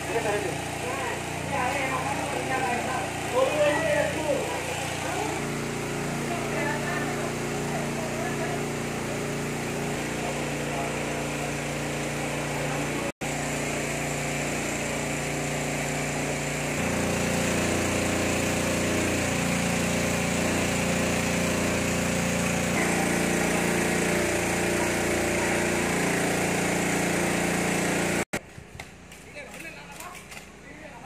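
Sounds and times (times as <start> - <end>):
small petrol engine running: 0.0 - 28.4.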